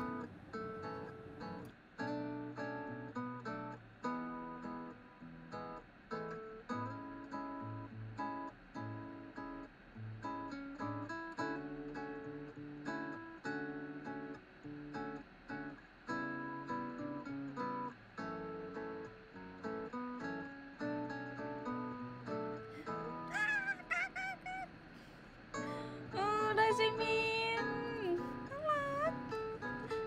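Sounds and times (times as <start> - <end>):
calm acoustic guitar piece: 0.0 - 30.0.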